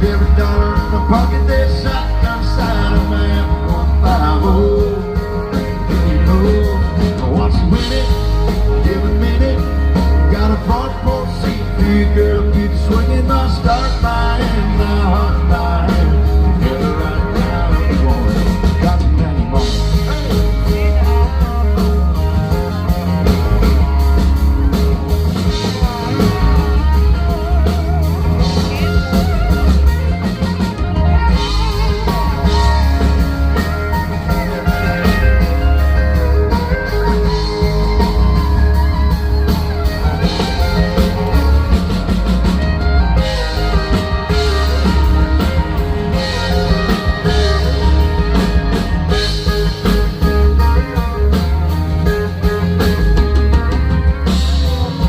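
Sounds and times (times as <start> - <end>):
bass guitar: 0.0 - 55.0
drum kit beat: 0.0 - 55.0
electric guitar: 0.0 - 55.0.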